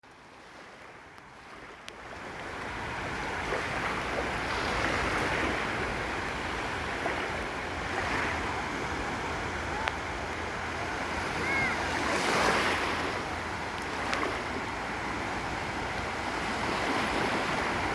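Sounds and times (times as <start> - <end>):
sea waves washing onto beach: 0.4 - 17.9
wind rumble on microphone: 1.5 - 17.9.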